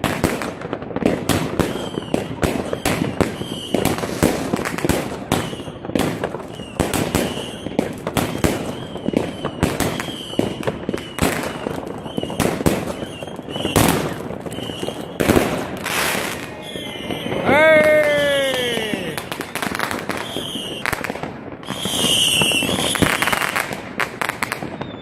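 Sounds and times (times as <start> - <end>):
fireworks bangs and crackles: 0.0 - 25.0
high-pitched firework whistles: 1.4 - 25.0.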